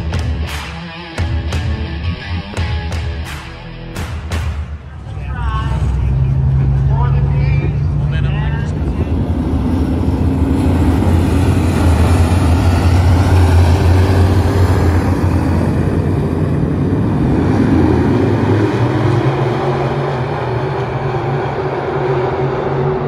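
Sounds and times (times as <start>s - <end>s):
race car engines droning: 0.0s - 23.0s.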